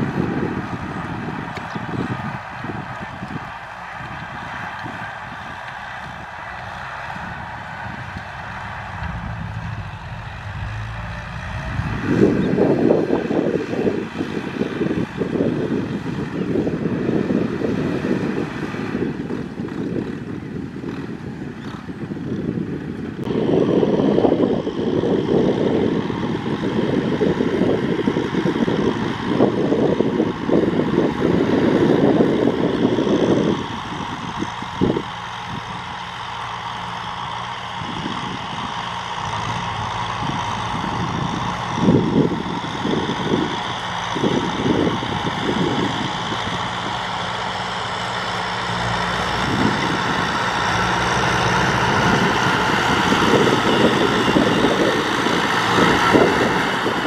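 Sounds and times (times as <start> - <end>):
tractor diesel engine running: 0.0 - 57.0
wind rumbling on microphone: 0.0 - 57.0.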